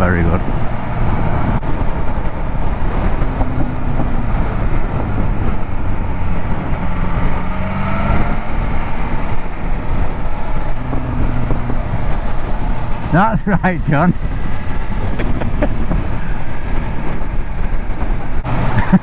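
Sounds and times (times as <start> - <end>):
motorcycle engine running: 0.0 - 18.5
wind rushing past helmet: 0.0 - 19.0.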